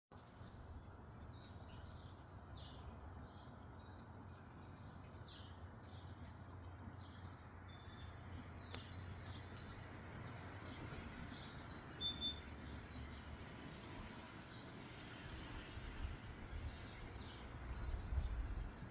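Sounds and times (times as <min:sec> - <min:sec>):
small birds chirping: 0:00.2 - 0:18.9.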